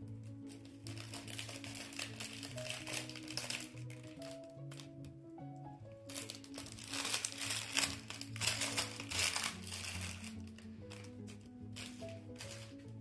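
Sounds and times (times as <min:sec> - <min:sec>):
plastic bag crinkling: 0:00.0 - 0:05.1, 0:05.9 - 0:13.0
background music: 0:00.0 - 0:13.0.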